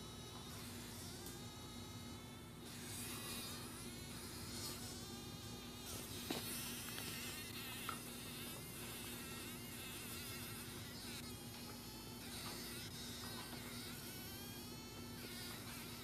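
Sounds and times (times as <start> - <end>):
fly buzzing: 0.0 - 16.0.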